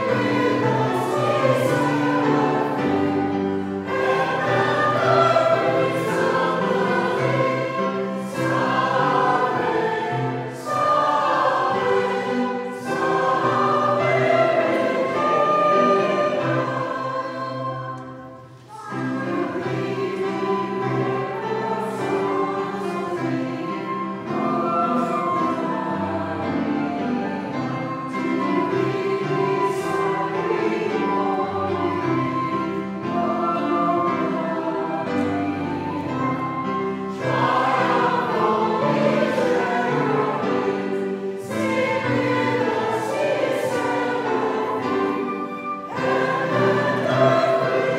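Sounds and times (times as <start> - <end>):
congregation singing a hymn: 0.0 - 47.9.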